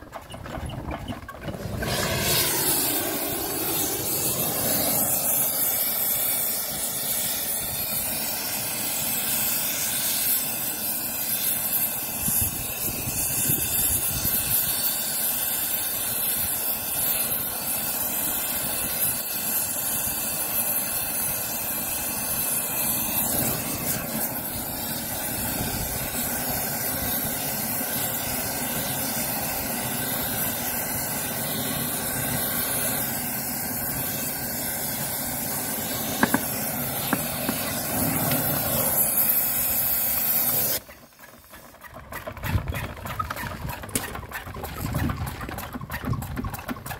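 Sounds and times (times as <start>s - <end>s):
hydraulic pump hissing: 1.6s - 40.9s.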